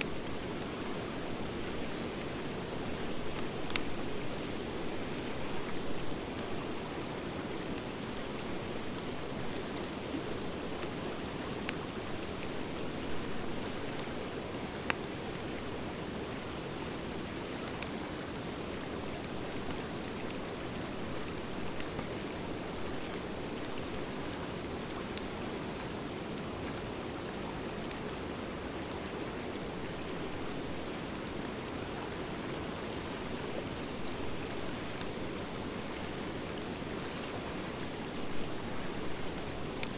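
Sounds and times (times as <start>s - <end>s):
fire crackles and pops: 0.0s - 39.9s.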